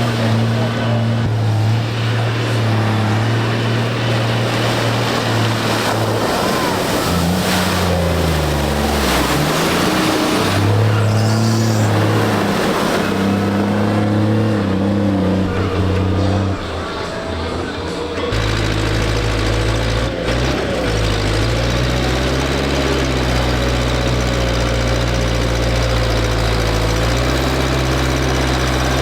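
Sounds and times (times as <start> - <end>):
tractor engines running: 0.0 - 29.0.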